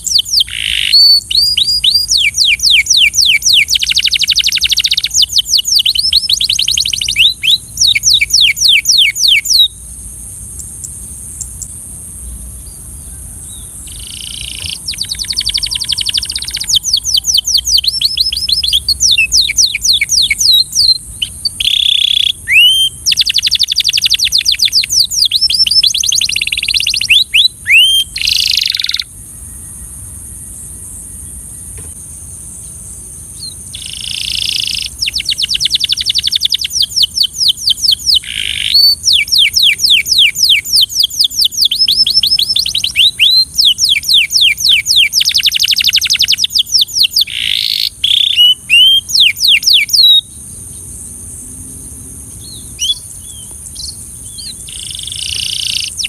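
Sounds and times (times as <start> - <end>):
canary singing trills: 0.0 - 32.0, 32.6 - 51.0, 52.2 - 56.0
steady high hiss: 0.0 - 56.0.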